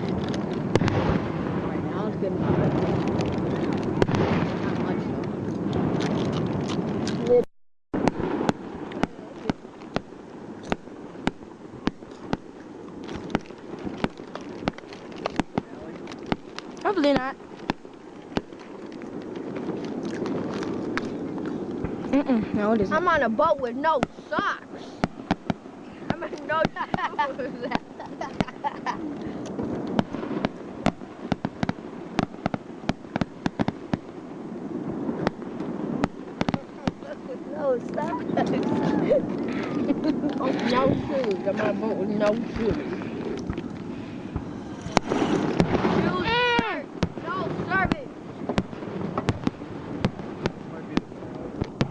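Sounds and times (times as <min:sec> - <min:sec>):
distant fireworks popping: 0:00.0 - 0:51.9
steady low rumble: 0:00.0 - 0:51.9
steady hiss: 0:08.0 - 0:51.9.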